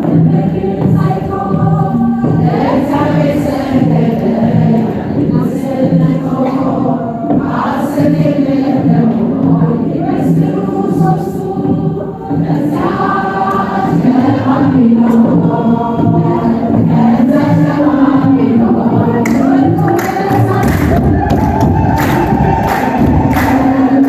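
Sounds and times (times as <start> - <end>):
women's choir singing a hymn: 0.0 - 24.0.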